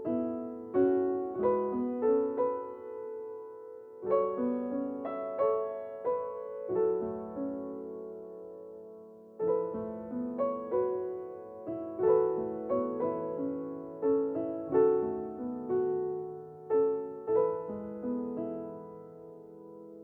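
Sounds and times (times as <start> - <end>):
slow gentle piano music: 0.0 - 20.0.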